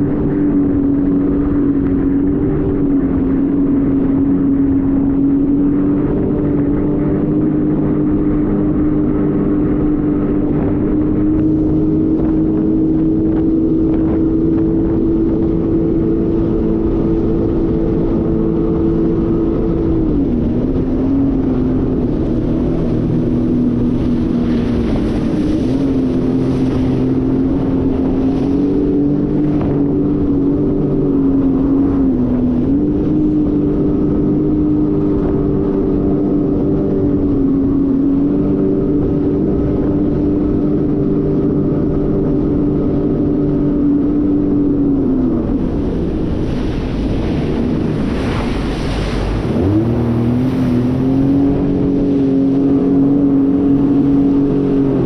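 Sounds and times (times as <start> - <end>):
jet ski engine drone: 0.0 - 55.0.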